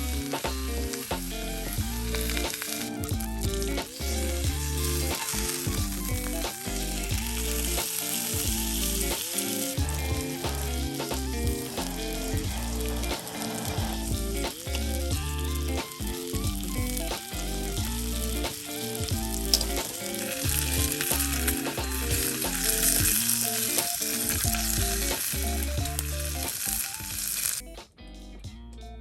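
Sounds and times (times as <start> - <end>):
steak sizzling: 0.0 - 27.6
background music: 0.0 - 29.0.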